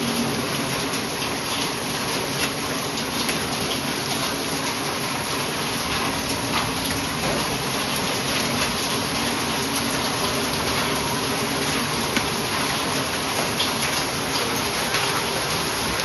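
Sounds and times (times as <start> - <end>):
hailstones hitting: 0.0 - 16.0
heavy rain: 0.0 - 16.0.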